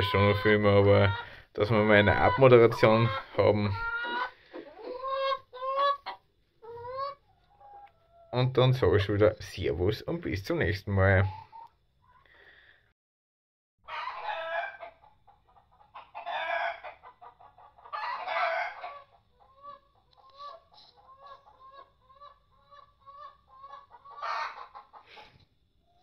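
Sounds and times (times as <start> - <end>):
chickens calling harshly: 0.0 - 9.7, 13.9 - 26.0
chickens clucking: 0.0 - 12.4, 13.9 - 26.0.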